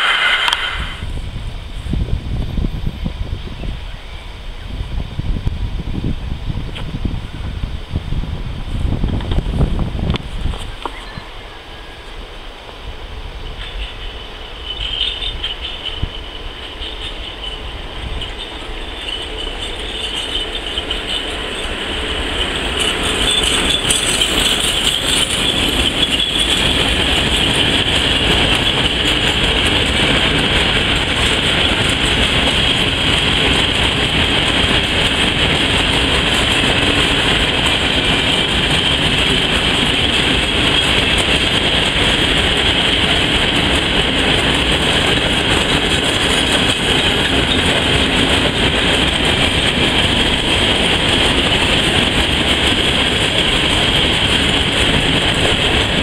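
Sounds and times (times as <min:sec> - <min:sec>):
electric locomotive passing: 0:00.0 - 0:56.0
train wheels rumbling on rails: 0:00.0 - 0:56.0.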